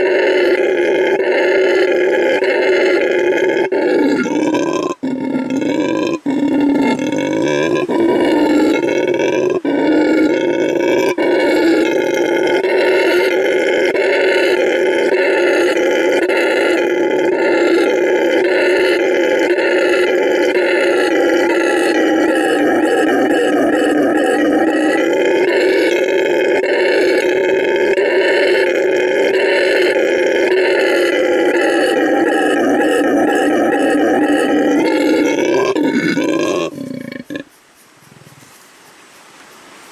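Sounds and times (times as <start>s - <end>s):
howler monkey roaring: 0.0s - 37.5s.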